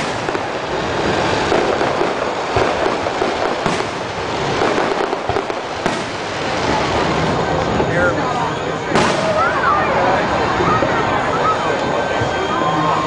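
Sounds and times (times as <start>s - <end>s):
fireworks booms: 0.0s - 12.7s
fireworks crackling: 0.0s - 13.0s.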